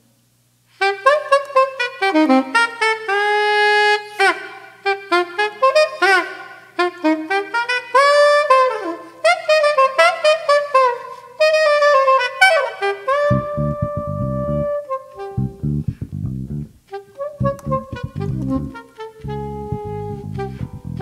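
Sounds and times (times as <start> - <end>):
solo saxophone playing jazz: 0.8 - 21.0.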